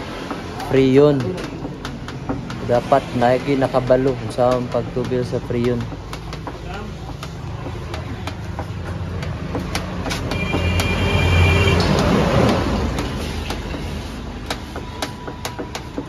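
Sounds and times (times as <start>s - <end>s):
regular ticking: 0.0s - 16.0s.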